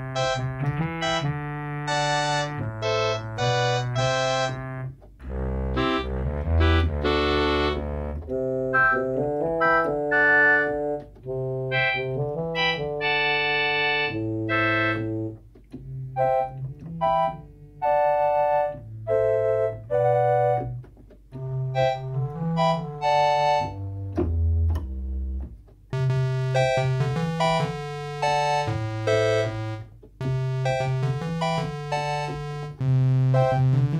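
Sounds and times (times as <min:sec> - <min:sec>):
electronic keyboard playing notes and chords: 0:00.0 - 0:33.9.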